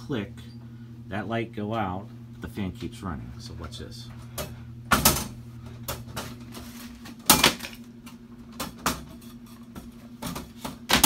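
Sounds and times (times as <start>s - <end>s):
exhaust fan motor hum: 0.0s - 11.0s.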